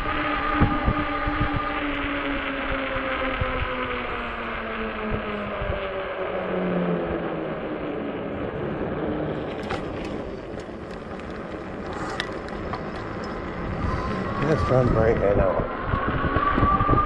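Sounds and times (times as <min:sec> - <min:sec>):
electric bike motor humming: 0:00.0 - 0:17.0
wind: 0:00.0 - 0:17.0.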